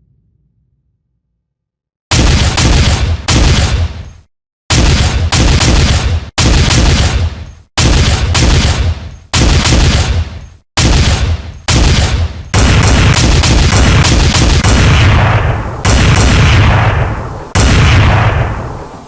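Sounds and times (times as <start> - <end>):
gunfire sound effect: 2.1 - 19.0.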